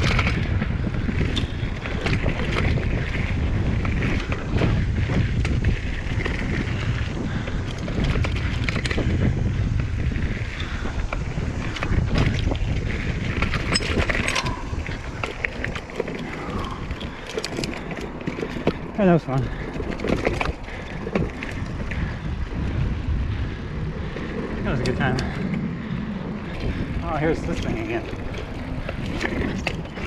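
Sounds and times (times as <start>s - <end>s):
bike knocking and rattling: 0.0s - 30.0s
bike tyres rumbling on dirt trail: 0.0s - 30.0s
wind buffeting microphone: 0.0s - 30.0s.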